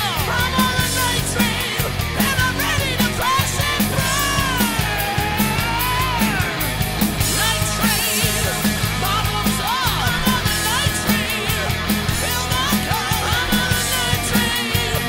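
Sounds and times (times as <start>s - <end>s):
electric guitars: 0.0s - 15.0s
steady drum beat: 0.0s - 15.0s
sung lead vocal: 0.0s - 15.0s.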